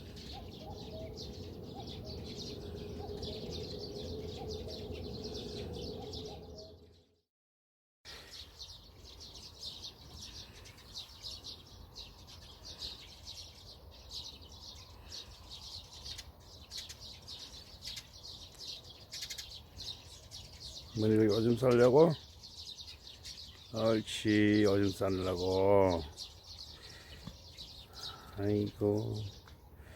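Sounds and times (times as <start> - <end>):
birds chirping and twittering: 0.0 - 7.3, 8.1 - 29.9.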